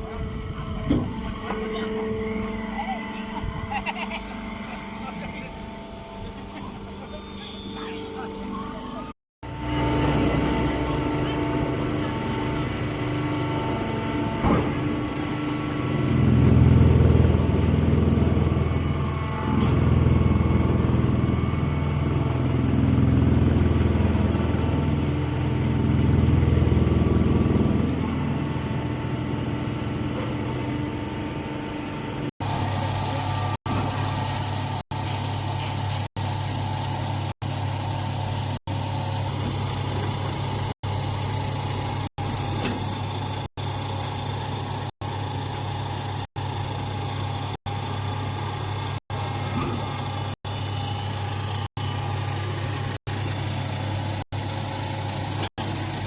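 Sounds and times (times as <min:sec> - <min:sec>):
hay baler humming: 0:09.4 - 0:56.0.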